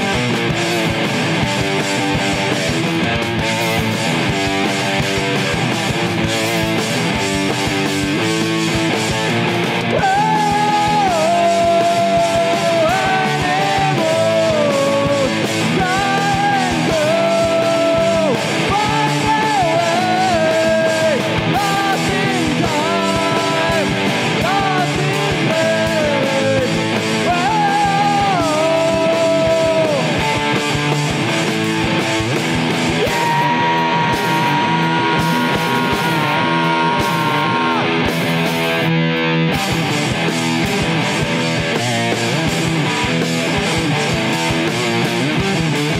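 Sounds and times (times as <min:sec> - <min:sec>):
lead electric guitar bending notes: 0:00.0 - 0:45.9
rock band playing: 0:00.0 - 0:45.9.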